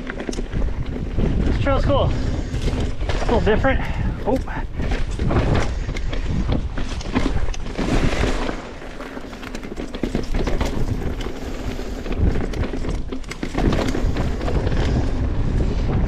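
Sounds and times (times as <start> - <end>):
tyres crunching over rock: 0.0 - 15.2
bike clattering over bumps: 0.0 - 16.0.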